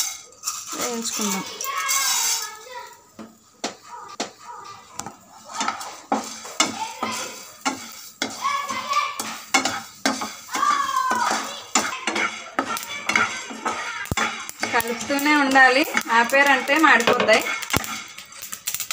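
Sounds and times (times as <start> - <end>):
grains rattling and scraping in pan: 0.0 - 18.9.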